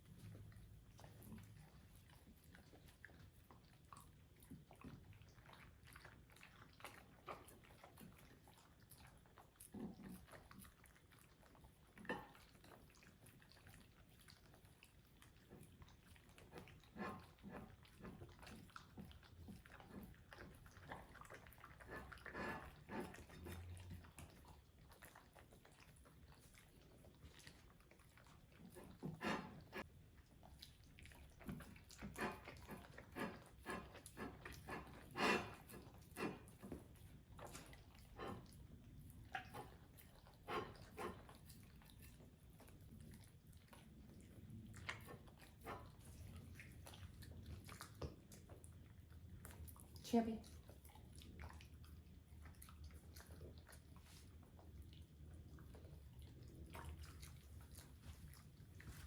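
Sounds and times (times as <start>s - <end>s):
dogs chewing food: 0.0s - 59.0s.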